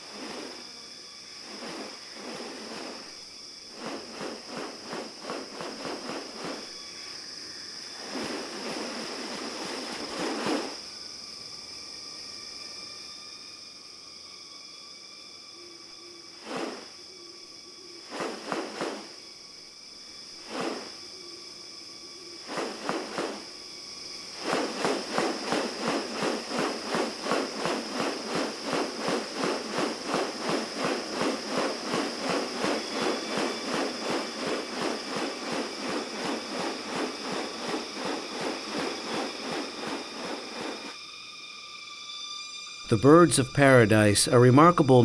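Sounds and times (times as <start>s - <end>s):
insects droning: 0.0s - 45.0s
short insect calls: 0.0s - 45.0s.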